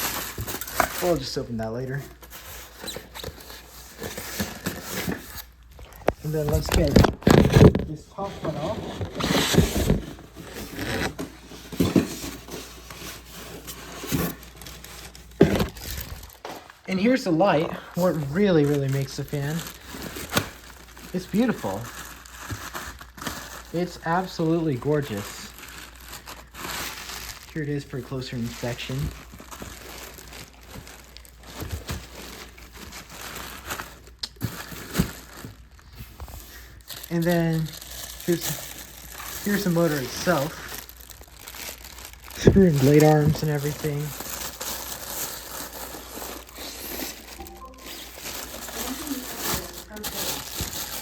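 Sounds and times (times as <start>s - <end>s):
packing material scraping and tearing: 0.0s - 16.4s, 17.0s - 51.0s.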